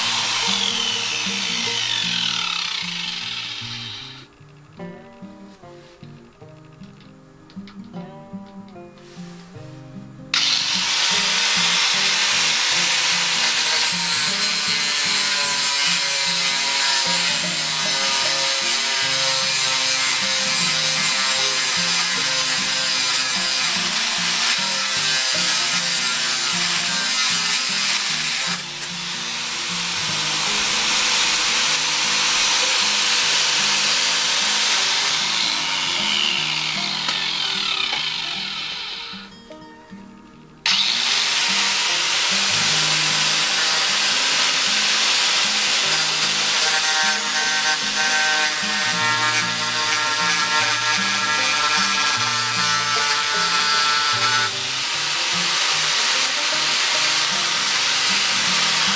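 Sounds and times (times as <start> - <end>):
angle grinder grinding metal: 0.0 - 4.4, 10.3 - 39.4, 40.6 - 58.9.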